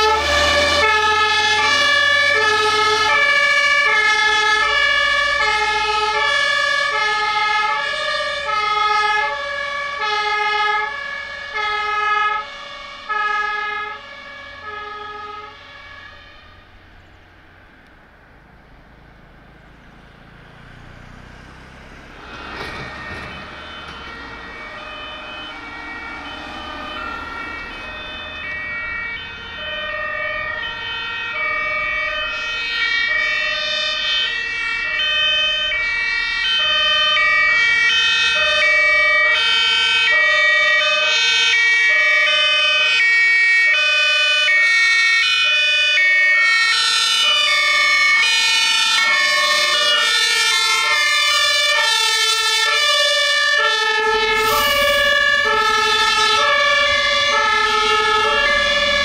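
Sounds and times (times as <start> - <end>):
fire engine two-tone siren: 0.0 - 17.9, 19.0 - 59.0
truck engine rumble: 0.0 - 59.0.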